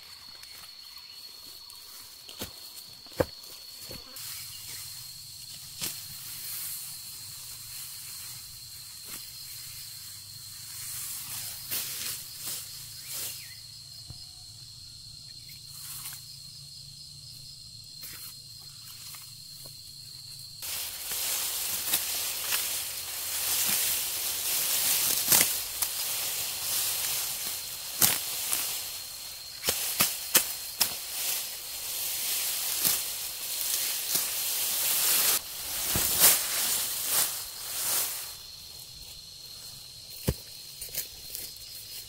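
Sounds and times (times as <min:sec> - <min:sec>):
high insect trill: 0:00.0 - 0:42.0.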